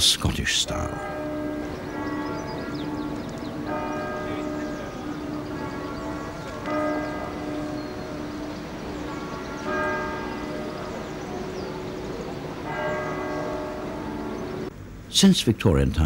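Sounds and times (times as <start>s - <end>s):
church bell tolling: 0.4s - 14.7s.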